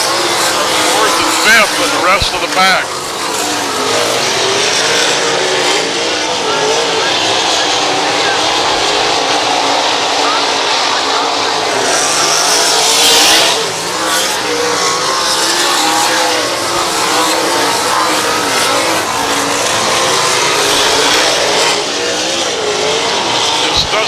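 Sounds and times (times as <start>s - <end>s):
race car engines wavering: 0.0s - 24.0s
race car passing close: 0.0s - 24.0s.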